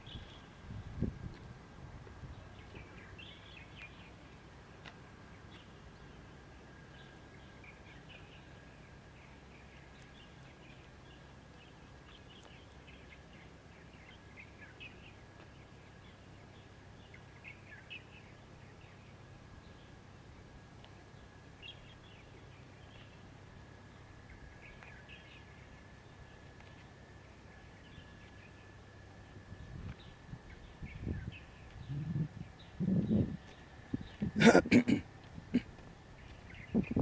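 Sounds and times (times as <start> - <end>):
low hum: 0.0 - 37.0
small birds chirping: 0.0 - 37.0.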